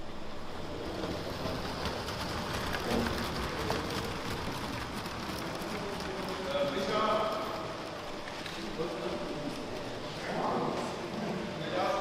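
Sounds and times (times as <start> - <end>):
toy trains rattling on plastic track: 0.0 - 10.2
large hall noise: 0.0 - 12.0.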